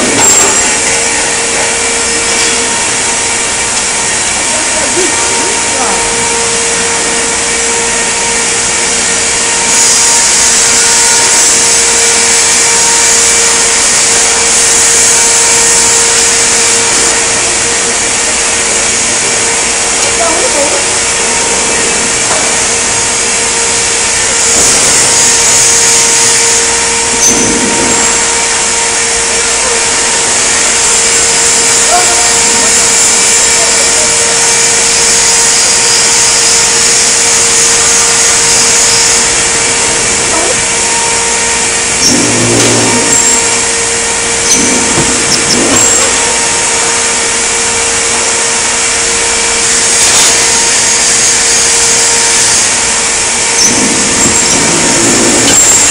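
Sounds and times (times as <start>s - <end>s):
machinery hum and hiss: 0.0s - 55.9s.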